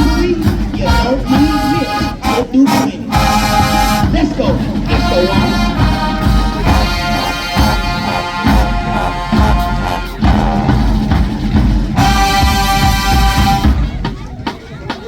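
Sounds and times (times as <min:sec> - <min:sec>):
marching band brass and drums: 0:00.0 - 0:15.0.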